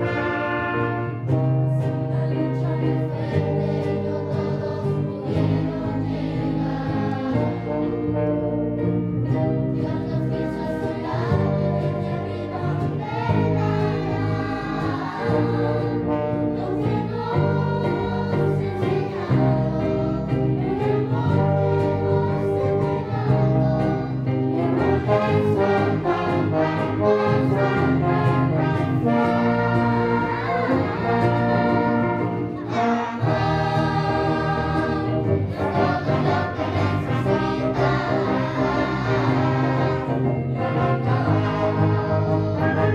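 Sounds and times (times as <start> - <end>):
choir singing: 0.0 - 8.3, 9.3 - 42.9
instrumental accompaniment: 0.0 - 42.9.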